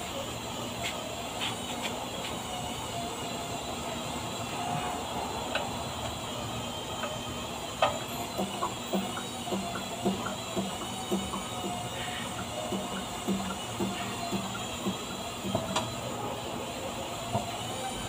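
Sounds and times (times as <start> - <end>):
workshop background noise: 0.0 - 18.0.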